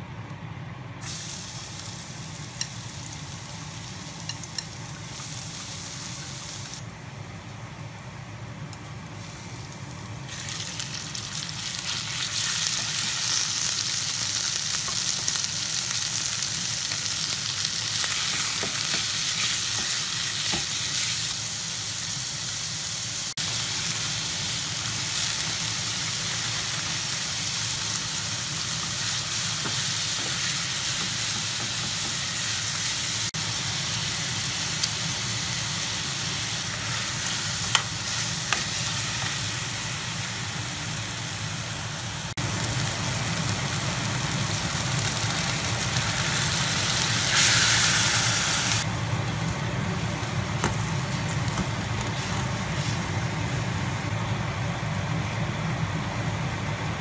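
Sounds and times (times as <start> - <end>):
meat and garlic sizzling: 1.0 - 55.0.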